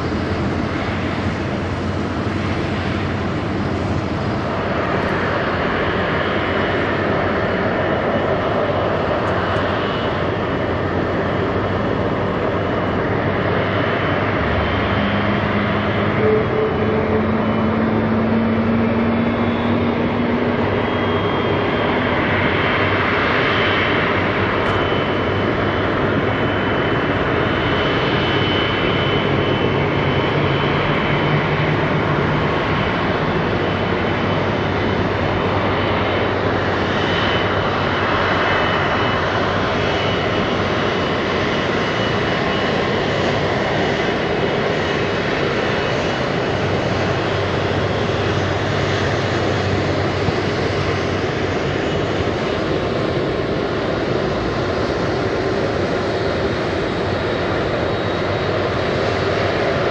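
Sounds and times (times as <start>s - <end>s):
jet engines at taxi power: 0.0s - 59.9s.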